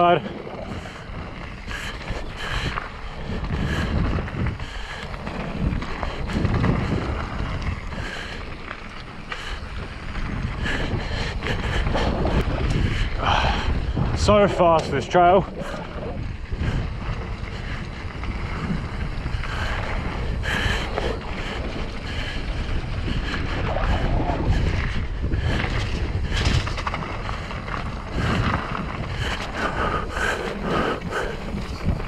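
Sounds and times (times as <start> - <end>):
bike rattling over dirt: 0.0 - 32.0
wind buffeting microphone: 0.0 - 32.0.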